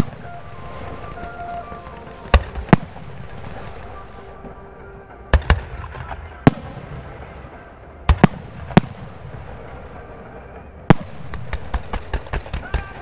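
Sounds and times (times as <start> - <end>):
firework shells bursting: 0.0 - 4.6, 5.3 - 13.0.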